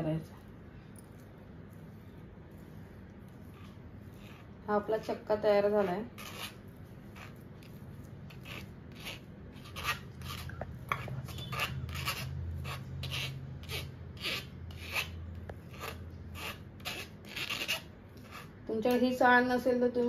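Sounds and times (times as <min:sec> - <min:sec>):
curd rasping through mesh sieve: 0:00.0 - 0:19.2
low steady hum: 0:00.0 - 0:20.0.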